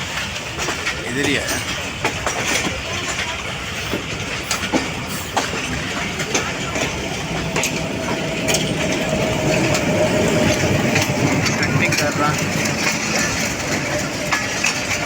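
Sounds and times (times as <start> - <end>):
train wheels clacking over joints: 0.0 - 15.0.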